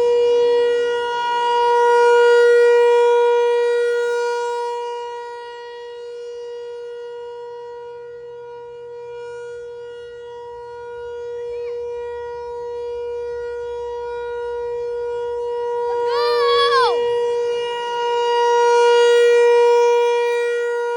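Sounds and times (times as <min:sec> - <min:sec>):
outdoor warning siren steady tone: 0:00.0 - 0:20.9.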